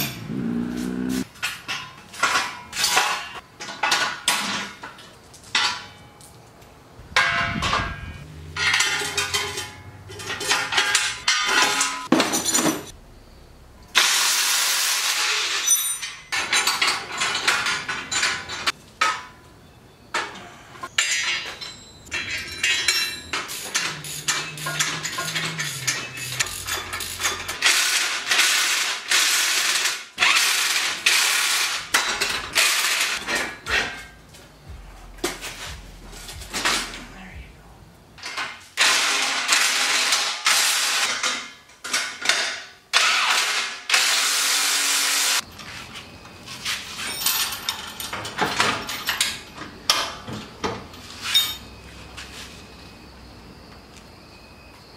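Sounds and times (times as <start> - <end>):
metal rails and tools clanking: 0.0 - 6.4, 7.2 - 13.0, 15.1 - 19.5, 20.1 - 37.3, 38.2 - 43.8, 46.5 - 51.8.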